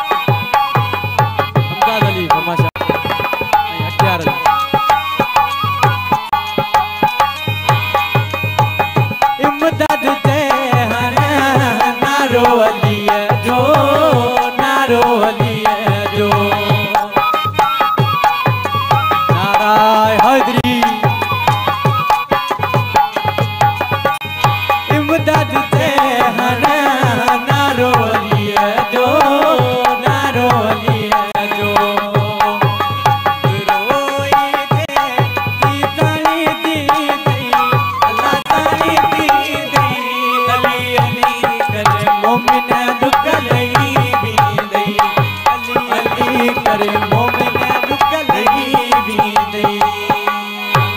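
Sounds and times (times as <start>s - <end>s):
hand drum beating fast rhythm: 0.0s - 50.9s
harmonium melody: 0.0s - 50.9s.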